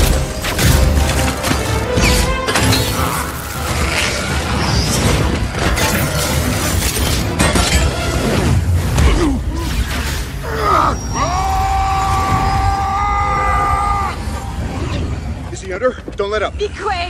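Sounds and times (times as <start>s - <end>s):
orchestral score: 0.0s - 15.0s.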